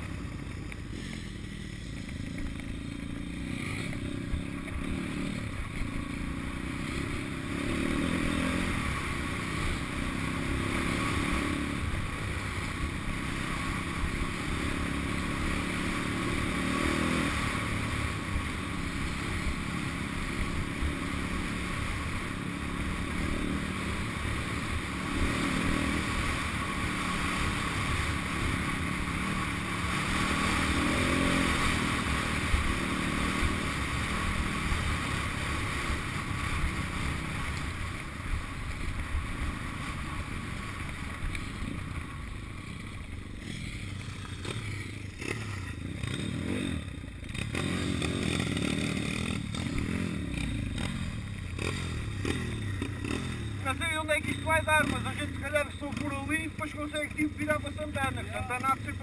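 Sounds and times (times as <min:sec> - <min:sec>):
pit bike engine running: 0:00.0 - 0:59.0.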